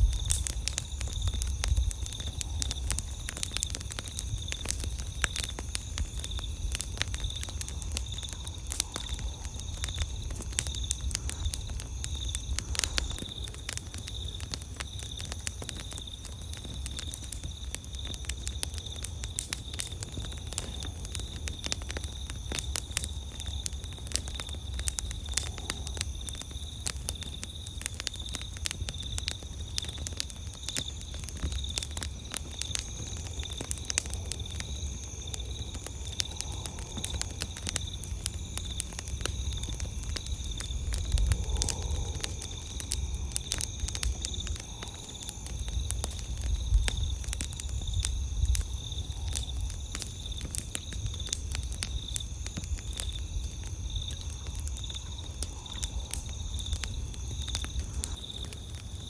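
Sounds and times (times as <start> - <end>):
crickets trilling: 0.0 - 59.0
insects chirping: 0.0 - 59.0
wood fire crackling and popping: 0.0 - 59.0.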